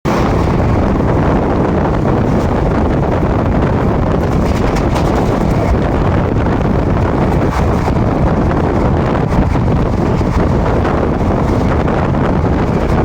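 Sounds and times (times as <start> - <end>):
train rumbling at speed: 0.0 - 13.0
wind buffeting microphone: 0.0 - 13.0.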